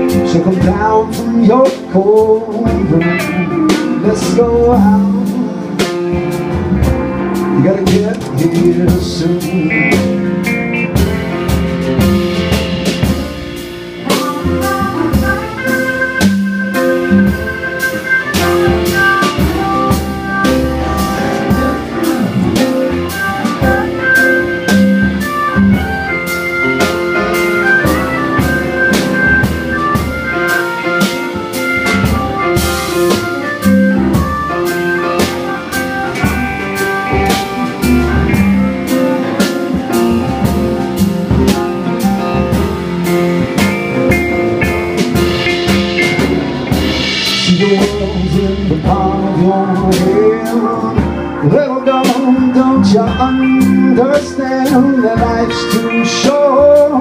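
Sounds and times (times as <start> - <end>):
drum kit beat: 0.0 - 57.0
electric guitar: 0.0 - 57.0
grand piano: 0.0 - 57.0
stage keyboard: 0.0 - 57.0
upright bass: 0.0 - 57.0.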